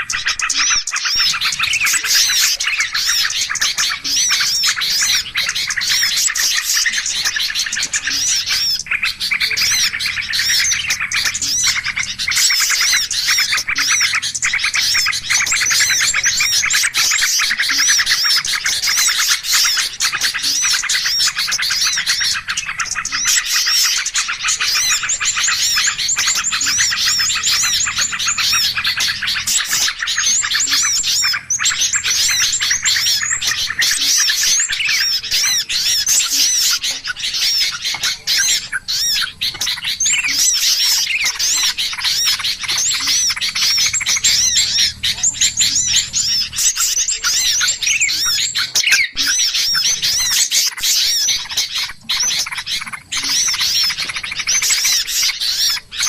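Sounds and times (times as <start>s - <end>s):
chorus of small birds chirping: 0.0s - 56.0s.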